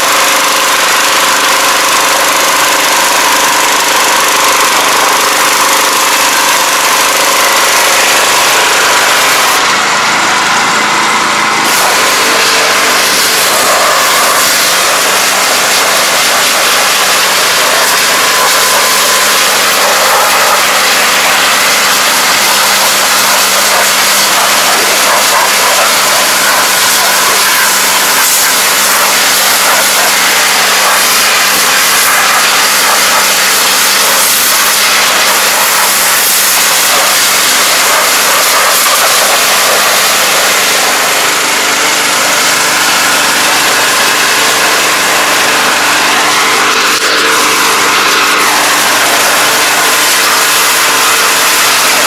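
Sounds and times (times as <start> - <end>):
pressure washer motor hum: 0.0 - 52.0
water jet hissing and spattering: 3.2 - 42.5, 46.3 - 52.0.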